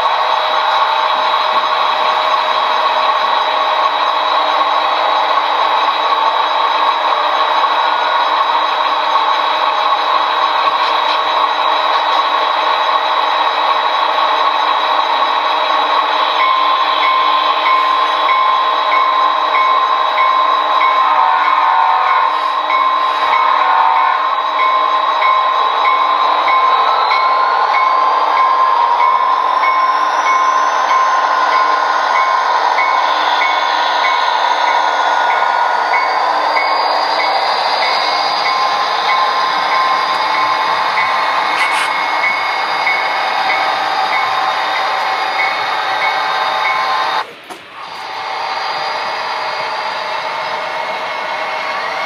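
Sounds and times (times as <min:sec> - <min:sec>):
model train diesel engine sound: 0:00.0 - 0:52.0.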